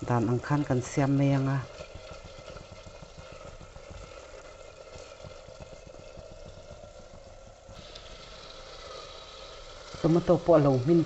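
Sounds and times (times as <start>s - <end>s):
masala sizzling in hot oil: 0.0s - 11.0s
small pops and crackles: 0.0s - 11.0s.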